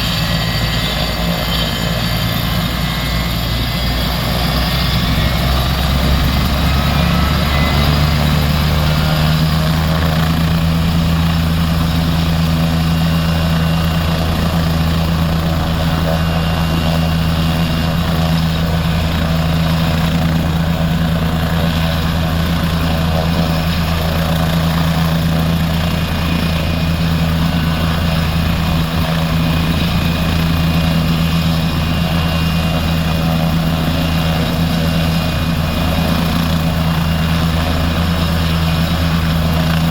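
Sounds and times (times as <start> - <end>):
helicopter droning: 0.0 - 39.9.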